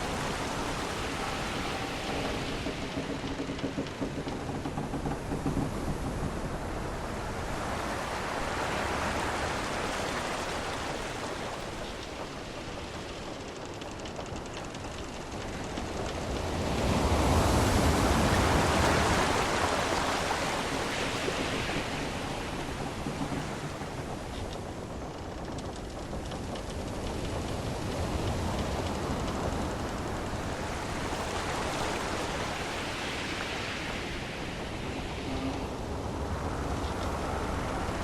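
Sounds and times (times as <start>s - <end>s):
sea waves washing: 0.0s - 38.0s.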